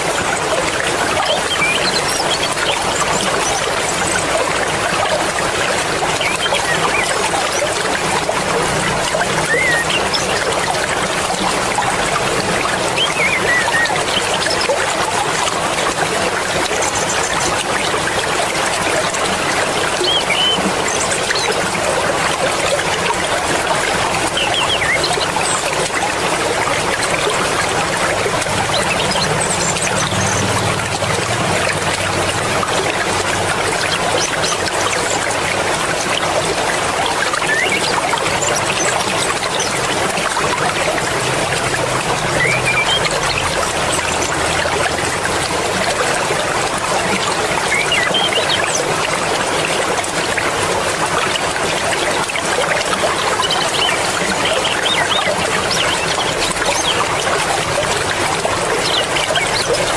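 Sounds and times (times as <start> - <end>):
river rushing and babbling: 0.0 - 59.9.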